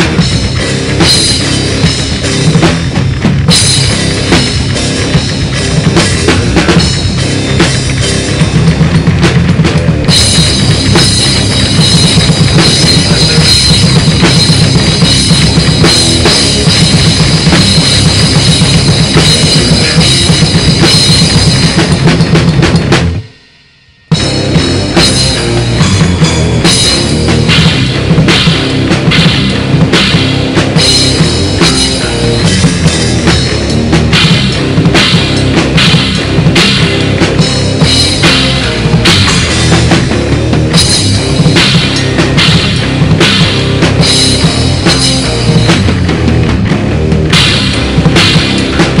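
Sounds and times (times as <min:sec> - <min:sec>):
drum kit: 0:00.0 - 0:49.0
rock band playing: 0:00.0 - 0:49.0.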